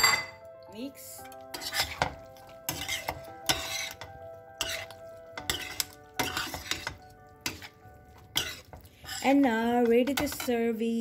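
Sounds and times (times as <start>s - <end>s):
metal spoon scraping frying pan: 1.5s - 10.6s.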